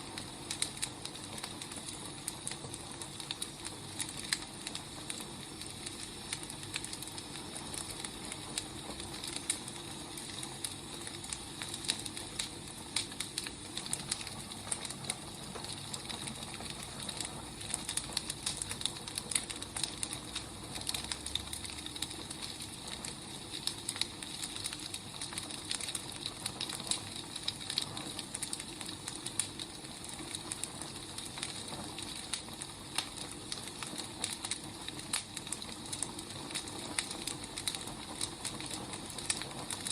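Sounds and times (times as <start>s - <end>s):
fire crackles and pops: 0.0s - 39.9s
firewood burning hiss: 0.0s - 39.9s.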